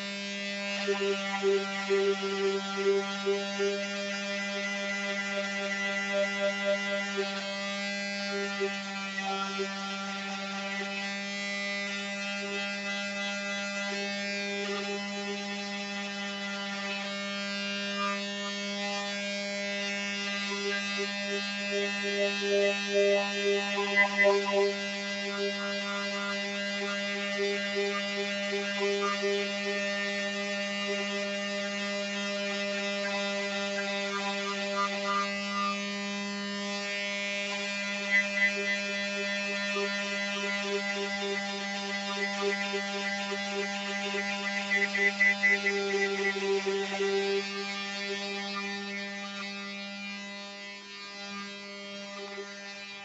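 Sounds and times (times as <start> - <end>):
electric sander humming: 0.0 - 53.0.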